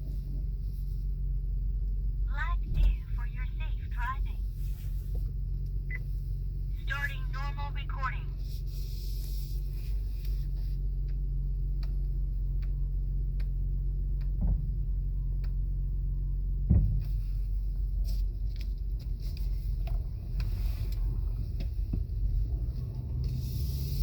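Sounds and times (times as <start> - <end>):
faint whine: 0.0 - 22.6
car road rumble: 0.0 - 24.0.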